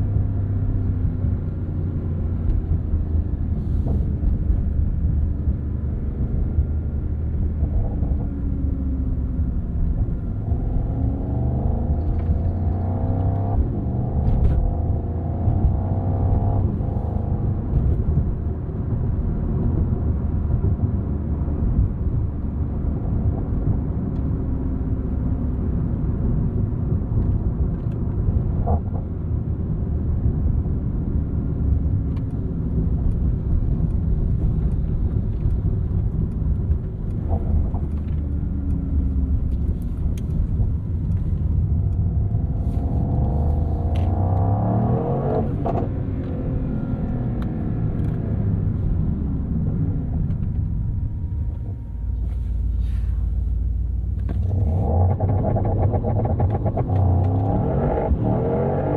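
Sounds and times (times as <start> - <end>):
car engine rumble: 0.0 - 58.9
road noise: 0.0 - 58.9.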